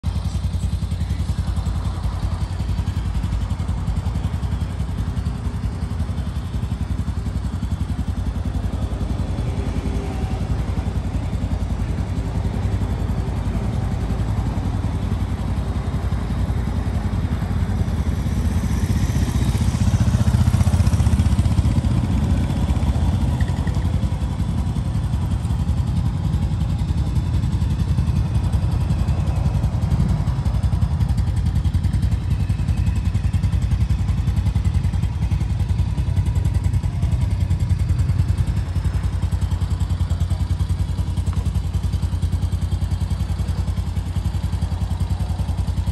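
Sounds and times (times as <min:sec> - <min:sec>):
atv engine idling: 0:00.0 - 0:45.9.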